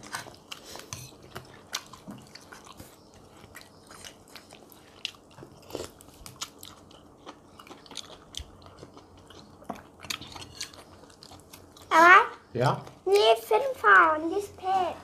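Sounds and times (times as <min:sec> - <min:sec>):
people chewing and crunching food: 0:00.0 - 0:15.0.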